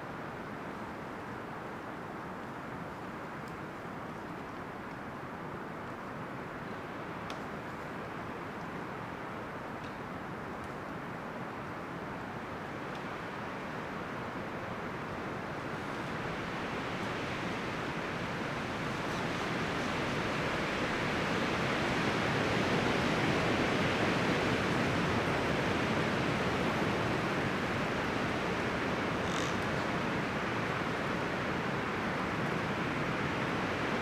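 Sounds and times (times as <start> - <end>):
wind rustling through leaves: 0.1 - 34.0.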